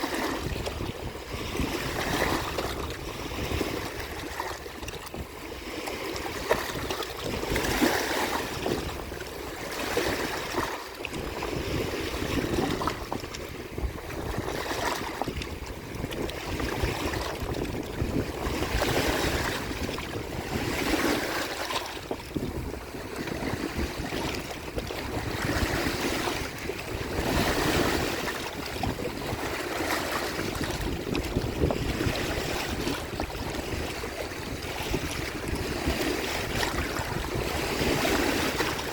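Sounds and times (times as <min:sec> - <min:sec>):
waves washing ashore: 0:00.0 - 0:38.9
wind rumbling on microphone: 0:00.0 - 0:38.9.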